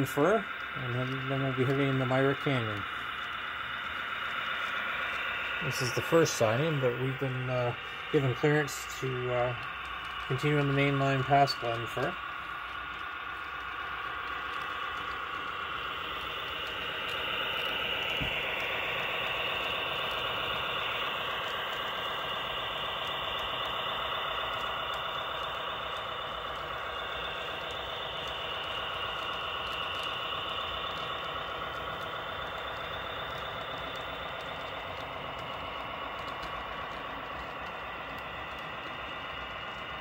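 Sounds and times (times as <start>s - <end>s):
model train engine drone: 0.0s - 40.0s.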